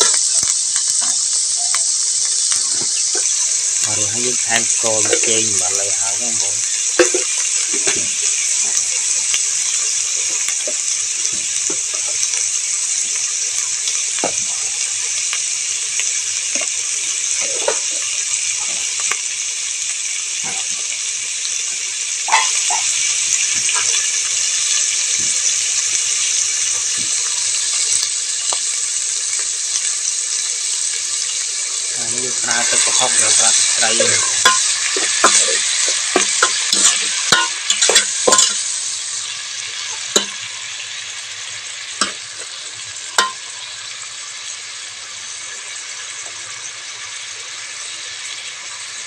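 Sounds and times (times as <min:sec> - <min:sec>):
meat frying in oil: 0:00.0 - 0:49.0.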